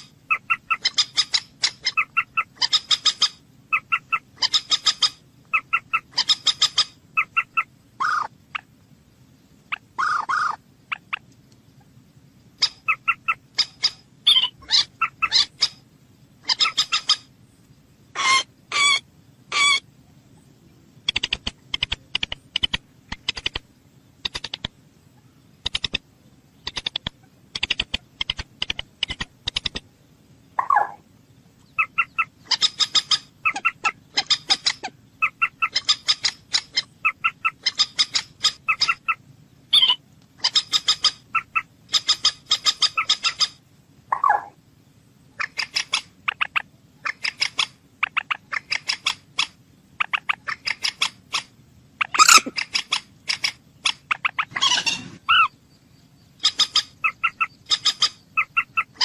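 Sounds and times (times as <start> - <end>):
bird chattering calls: 0.0 - 8.7, 9.7 - 11.3, 12.5 - 15.8, 16.4 - 17.3, 18.1 - 19.9, 21.0 - 26.0, 26.6 - 29.9, 30.6 - 31.0, 31.6 - 44.6, 45.3 - 59.0.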